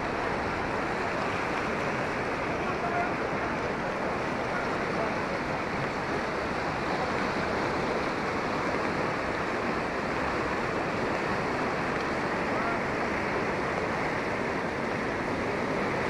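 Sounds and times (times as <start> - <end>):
floodwater rushing and churning: 0.0 - 16.0.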